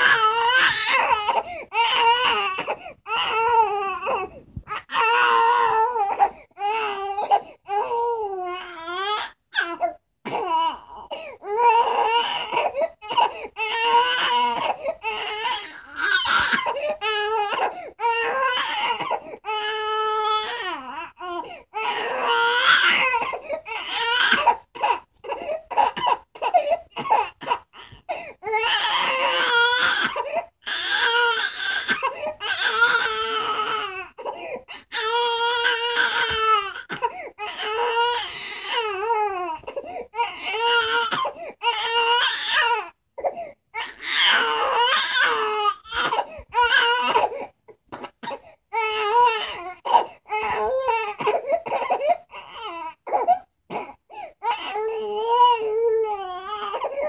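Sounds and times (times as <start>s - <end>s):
baby crying: 0.0s - 57.0s.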